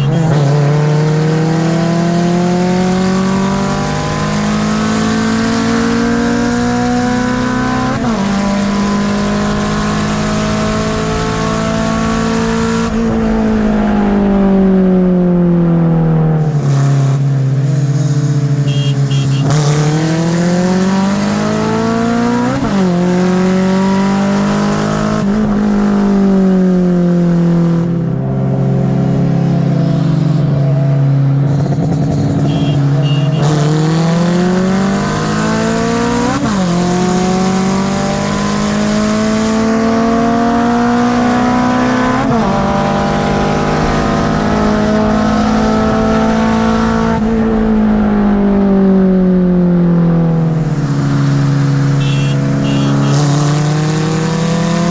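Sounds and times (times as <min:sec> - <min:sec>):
car engine accelerating through gears: 0:00.0 - 0:18.7, 0:19.4 - 0:54.9.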